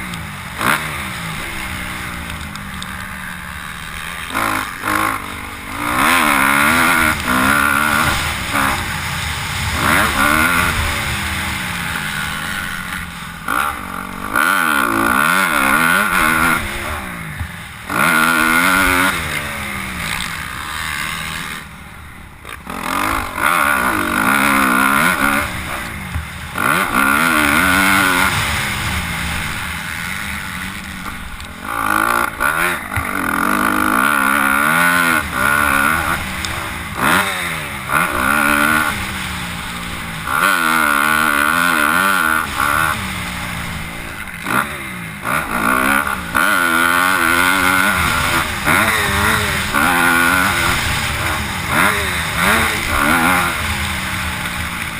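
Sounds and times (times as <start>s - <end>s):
motocross bikes revving: 0.0s - 54.9s.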